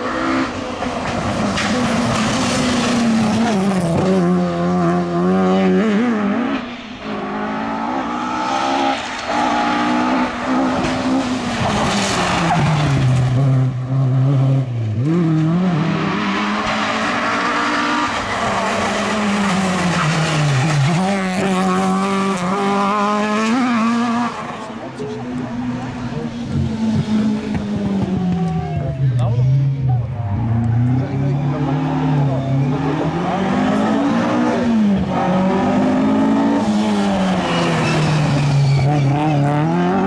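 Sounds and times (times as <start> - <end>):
rally car engine revving: 0.0 - 40.0
tyres skidding: 0.0 - 40.0.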